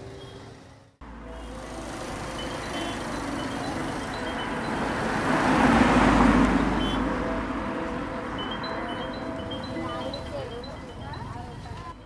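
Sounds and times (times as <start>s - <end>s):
vehicle passing: 0.0s - 12.0s.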